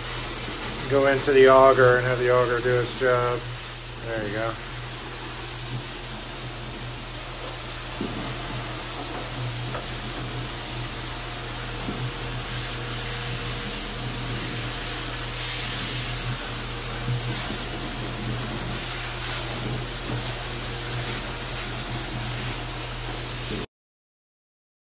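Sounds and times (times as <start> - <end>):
coolant spray hissing: 0.0 - 23.7.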